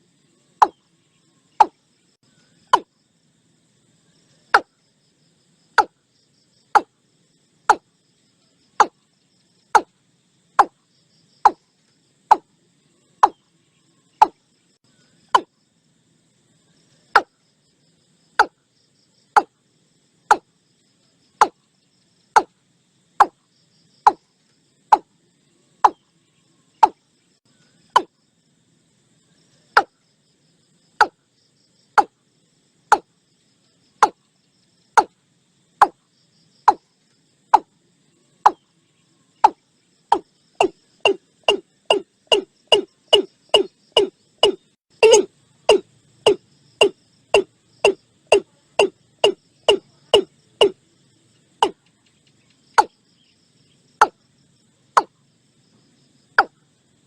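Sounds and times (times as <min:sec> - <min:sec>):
faint insect chorus: 0:00.0 - 0:57.0.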